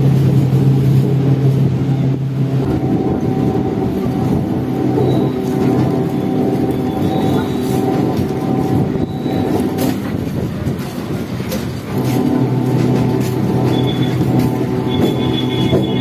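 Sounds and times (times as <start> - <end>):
electric train hum: 0.0 - 16.0
train wheels clacking: 2.7 - 16.0.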